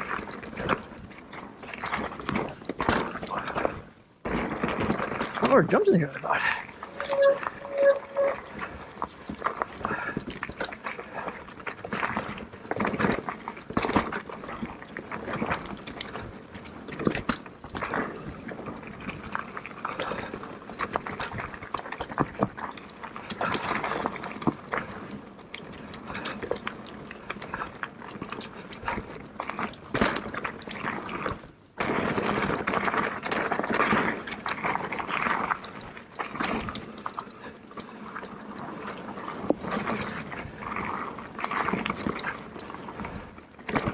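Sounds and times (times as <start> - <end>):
bike knocking and rattling: 0.0 - 43.9
bike tyres on dirt: 0.0 - 43.9.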